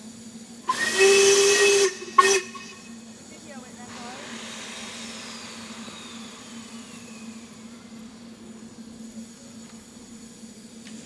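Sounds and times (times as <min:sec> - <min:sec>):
faint steam hiss: 0:00.0 - 0:11.0
steady low hum: 0:00.0 - 0:11.0.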